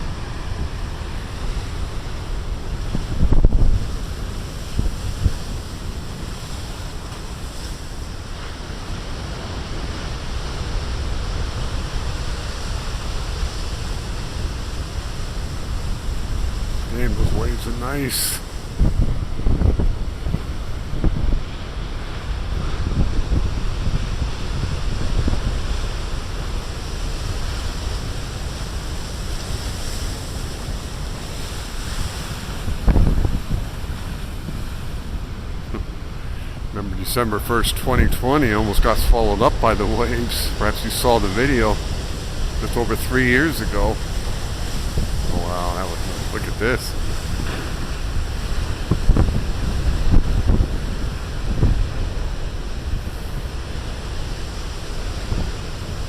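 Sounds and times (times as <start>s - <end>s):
heavy surf breaking on rocks: 0.0s - 56.0s
wind buffeting microphone: 0.0s - 56.0s.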